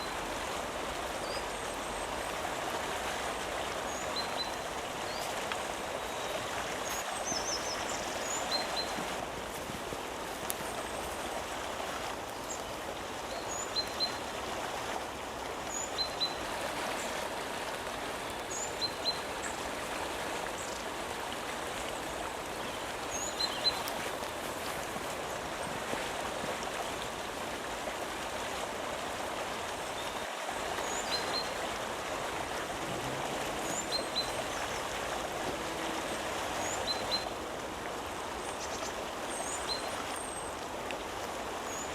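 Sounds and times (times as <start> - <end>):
running water: 0.0 - 41.9.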